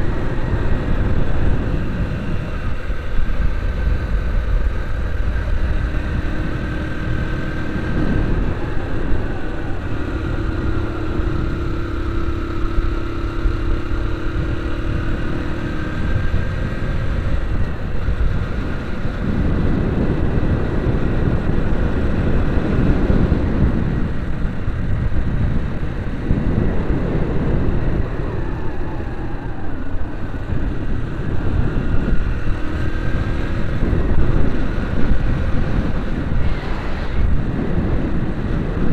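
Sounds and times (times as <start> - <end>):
vehicle engine running: 0.0 - 38.9
wind and road noise: 0.0 - 38.9.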